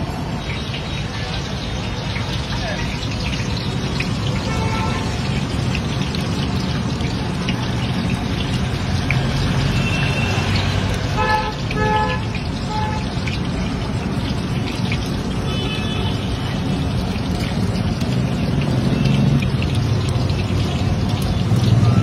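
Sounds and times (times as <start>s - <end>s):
deep-frying sizzle: 0.0s - 22.0s.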